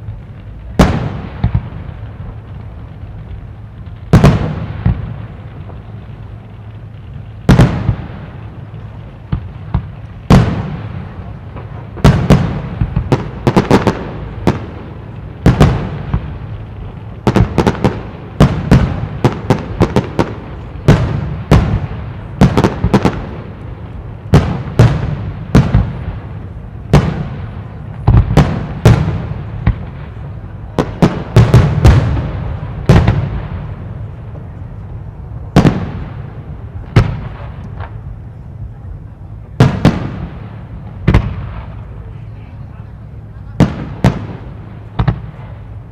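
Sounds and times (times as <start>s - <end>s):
fireworks bangs with echo: 0.0s - 45.9s.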